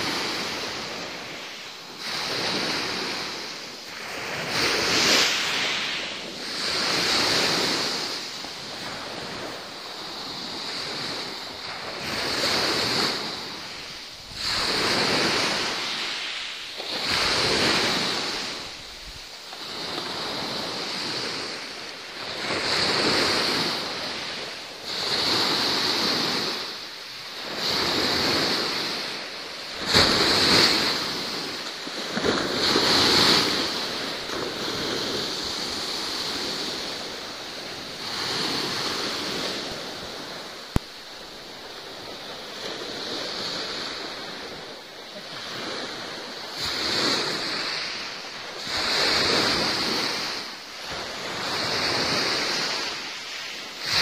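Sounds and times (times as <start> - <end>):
sea waves surging: 0.0 - 54.0.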